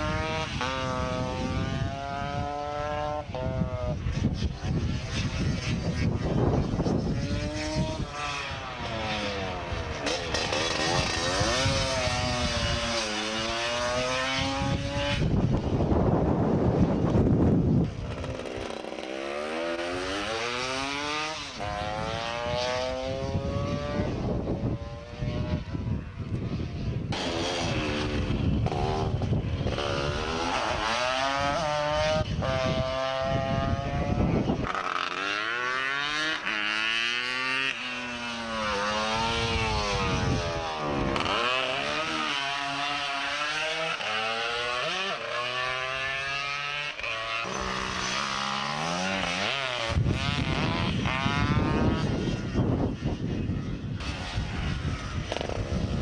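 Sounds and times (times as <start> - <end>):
scooter engines revving: 0.0 - 56.0.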